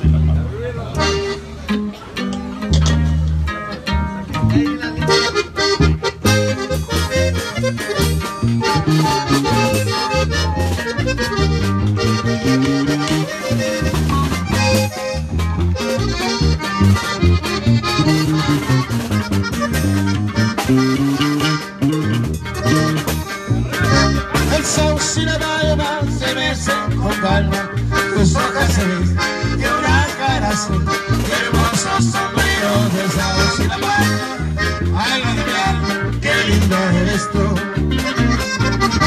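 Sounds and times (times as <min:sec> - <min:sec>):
accordion melody: 0:00.0 - 0:39.0
strummed acoustic guitar: 0:00.0 - 0:39.0.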